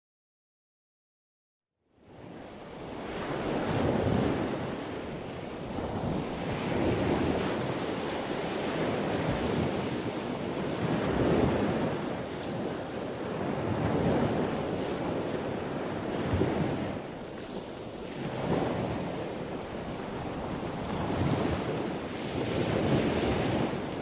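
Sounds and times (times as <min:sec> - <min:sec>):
rushing churning water: 0:03.2 - 0:24.0.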